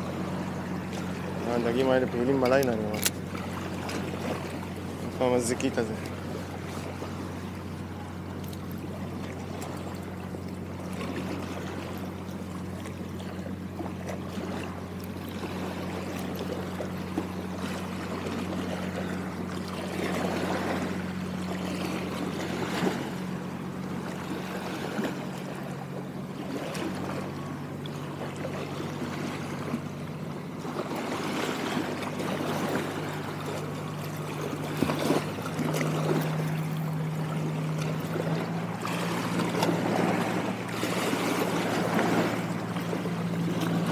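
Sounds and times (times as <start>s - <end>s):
low motor hum: 0.0s - 43.9s
water sloshing and splashing: 0.0s - 43.9s.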